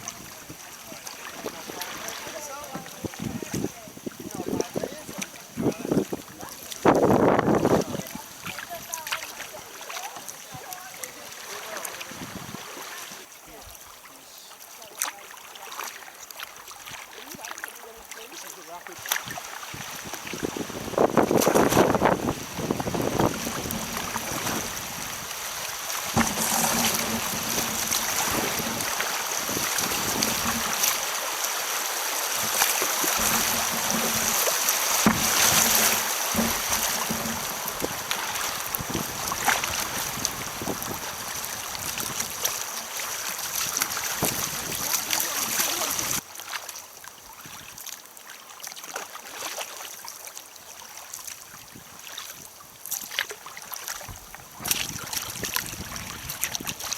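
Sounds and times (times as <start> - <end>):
river rapid rushing: 0.0 - 17.3, 17.9 - 46.2
kayak splashes: 0.0 - 56.9.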